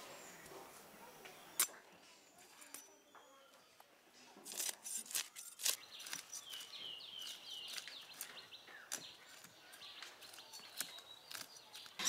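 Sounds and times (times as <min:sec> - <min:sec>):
bird chirping: 0:00.0 - 0:12.0
outdoor background noise: 0:00.0 - 0:12.0.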